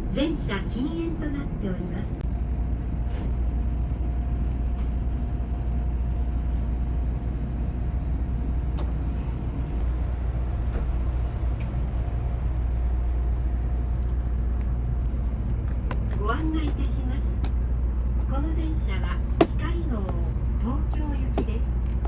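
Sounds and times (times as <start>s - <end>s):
train low rumble inside car: 0.0s - 22.0s.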